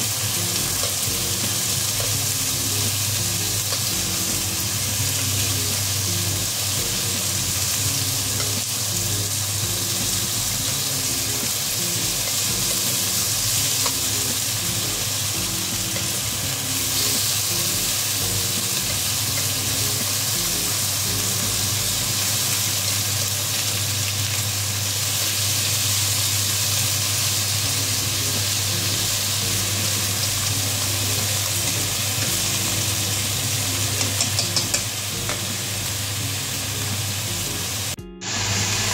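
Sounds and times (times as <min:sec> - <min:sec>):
meat sizzling in a wok: 0:00.0 - 0:38.9.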